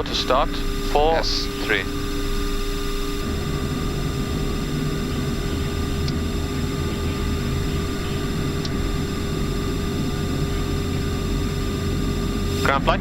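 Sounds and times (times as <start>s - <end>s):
constant tonal hum: 0.0s - 13.0s.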